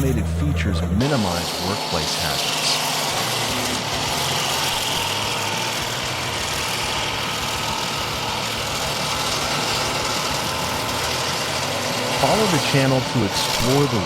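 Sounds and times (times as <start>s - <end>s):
heavy machine engine running: 0.0s - 14.0s.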